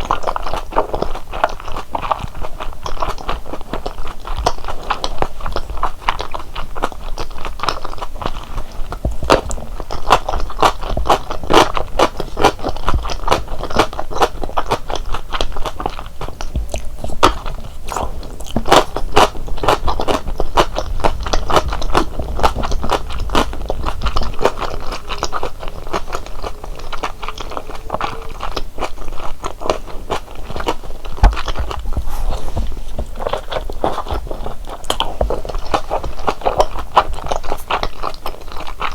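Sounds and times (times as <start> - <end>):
chewing mouth sounds: 0.0 - 38.9.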